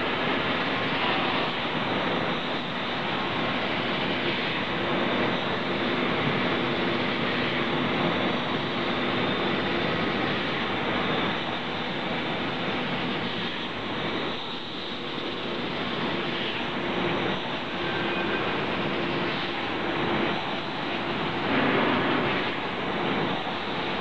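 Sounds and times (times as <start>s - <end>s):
faint machine hum: 0.0s - 24.0s.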